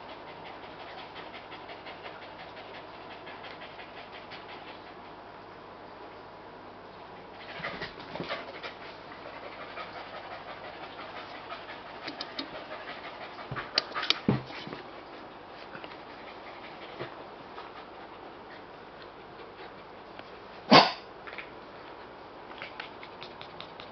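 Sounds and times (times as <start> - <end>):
small dog panting: 0.0 - 5.2, 7.4 - 19.9, 22.6 - 23.9.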